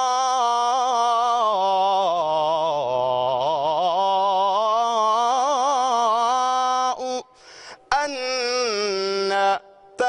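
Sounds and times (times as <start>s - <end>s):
man singing devotional chant: 0.0s - 10.0s.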